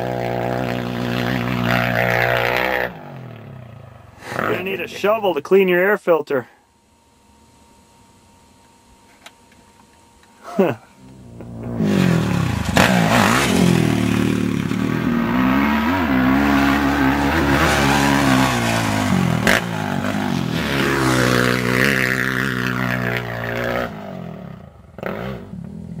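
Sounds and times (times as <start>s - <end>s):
dirt bike engine revving: 0.0s - 5.4s, 10.5s - 26.0s.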